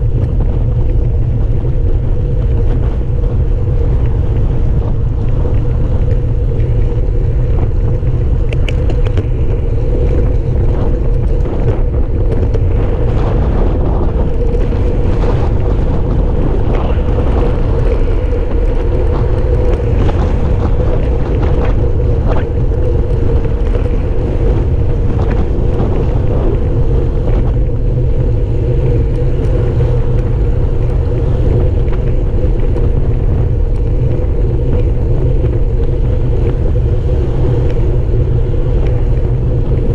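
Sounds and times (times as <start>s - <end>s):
road noise hum: 0.0s - 39.9s
wind buffeting microphone: 0.0s - 39.9s.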